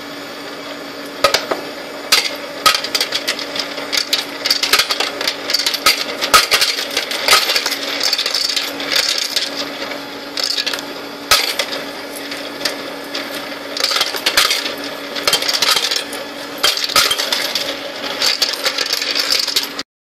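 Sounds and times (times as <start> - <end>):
coin sorter humming: 0.0 - 19.8
coins clattering through sorter: 2.1 - 19.8.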